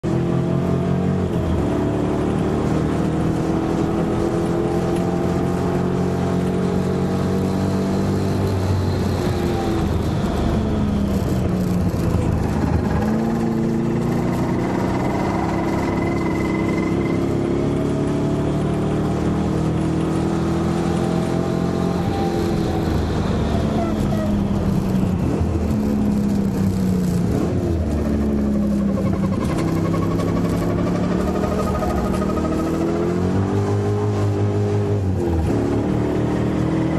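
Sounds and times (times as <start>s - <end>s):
car engine running hard: 0.0s - 36.9s.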